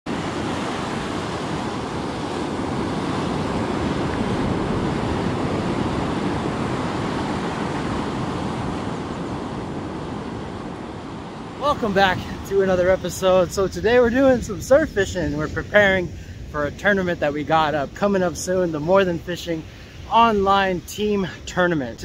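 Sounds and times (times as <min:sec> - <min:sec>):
wind: 0:00.0 - 0:22.0
ocean surf breaking: 0:00.1 - 0:22.0.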